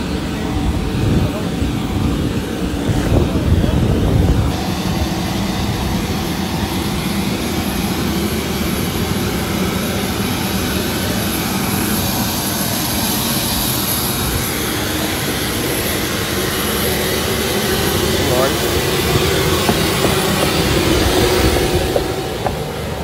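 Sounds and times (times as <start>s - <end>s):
aircraft turbine engine roar: 0.0s - 23.0s
high thin whine: 0.0s - 23.0s.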